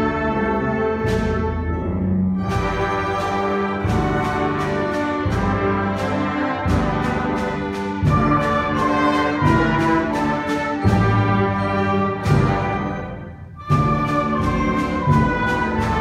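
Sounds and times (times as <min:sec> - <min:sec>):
orchestra playing accented chords: 0:00.0 - 0:16.0.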